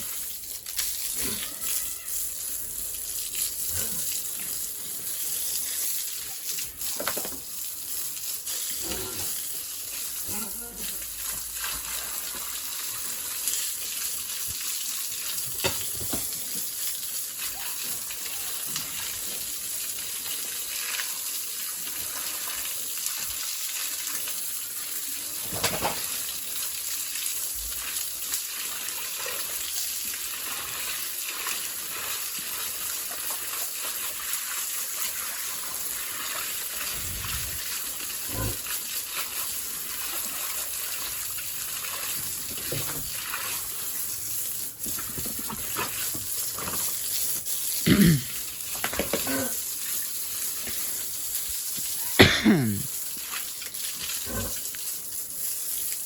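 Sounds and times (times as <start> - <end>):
water spraying from a hose: 0.0 - 56.0.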